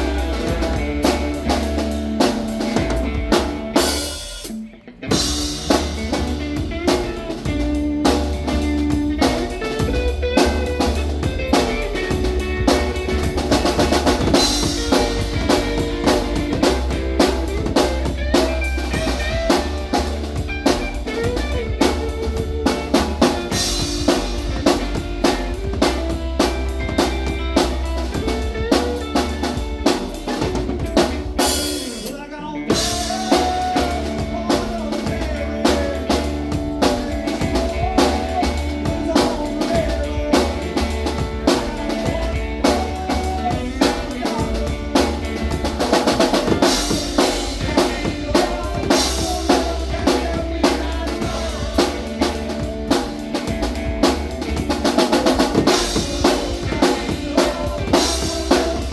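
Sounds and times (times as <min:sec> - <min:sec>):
drum kit beat: 0:00.0 - 0:58.9
live rock band playing: 0:00.0 - 0:58.9.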